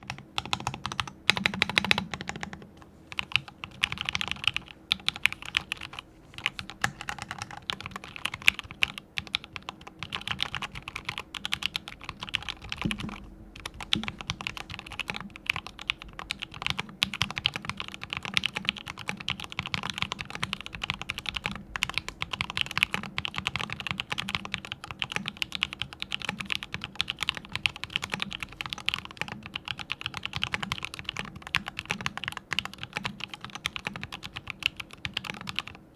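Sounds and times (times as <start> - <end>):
fast mechanical keyboard typing: 0.0 - 35.8.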